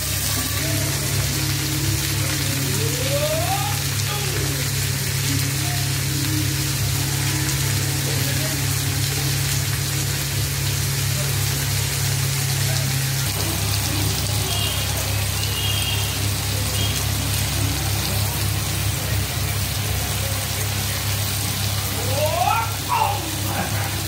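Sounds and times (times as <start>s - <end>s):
vegetables sizzling: 0.0s - 24.0s.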